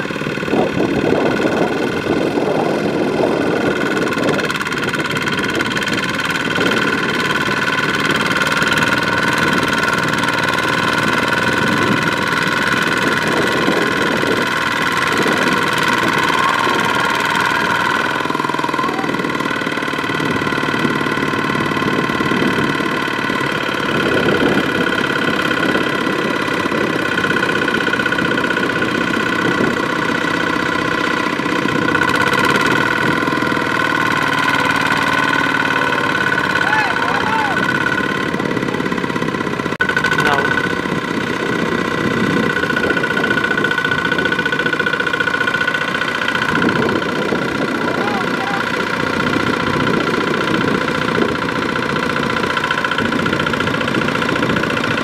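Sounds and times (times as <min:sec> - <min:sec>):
tractor diesel engine pulsing: 0:00.0 - 0:55.0.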